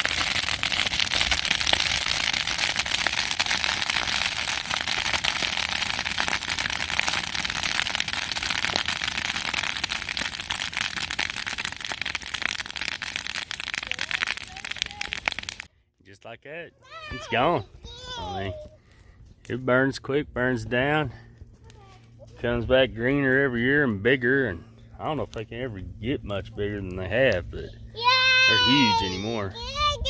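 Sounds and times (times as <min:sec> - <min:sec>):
dry grass fire crackling: 0:00.0 - 0:15.7, 0:17.0 - 0:30.0.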